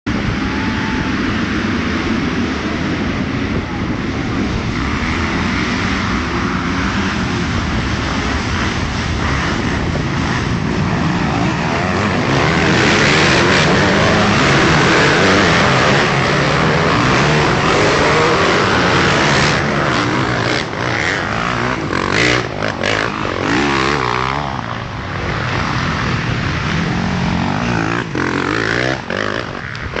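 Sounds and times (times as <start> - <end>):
motocross bikes revving: 0.1 - 30.0.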